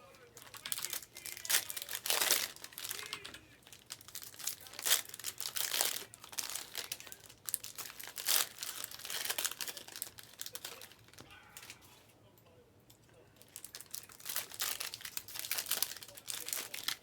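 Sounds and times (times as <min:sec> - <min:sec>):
card pack wrappers crinkling: 0:00.2 - 0:11.8, 0:13.4 - 0:17.0.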